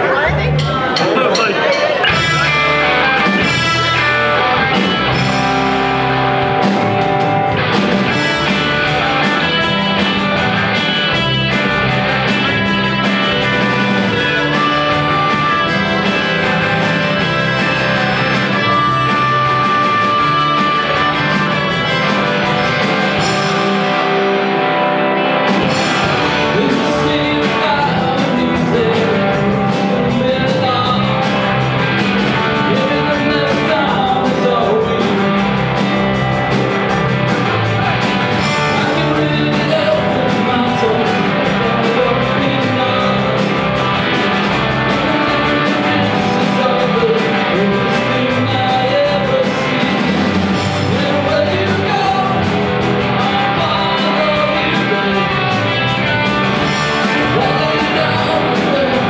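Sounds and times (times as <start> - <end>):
live rock band playing: 0.0 - 59.0
person singing: 0.7 - 24.9, 25.5 - 36.2, 37.8 - 59.0.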